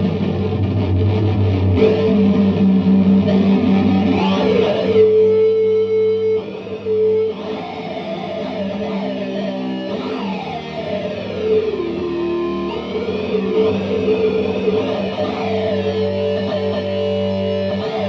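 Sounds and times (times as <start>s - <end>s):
fuzz electric guitar: 0.0s - 18.0s.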